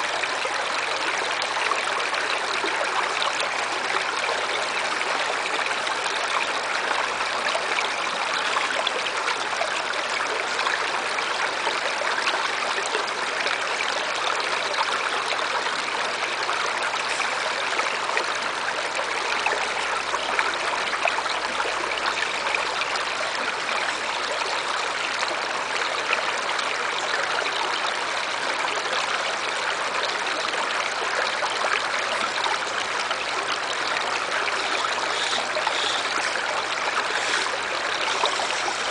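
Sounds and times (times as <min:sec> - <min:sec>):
stream water running over rocks: 0:00.0 - 0:38.9.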